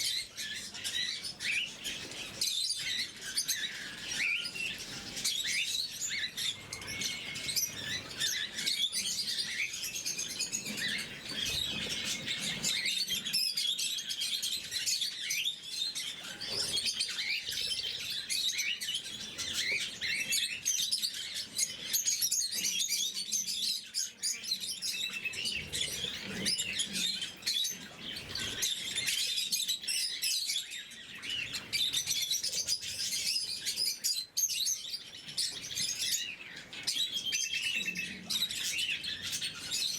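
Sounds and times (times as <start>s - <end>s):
lovebirds chirping and squeaking: 0.0s - 39.9s.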